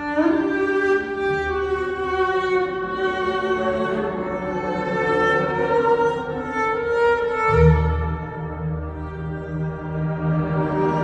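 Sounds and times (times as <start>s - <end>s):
cello music over loudspeakers: 0.0s - 11.0s.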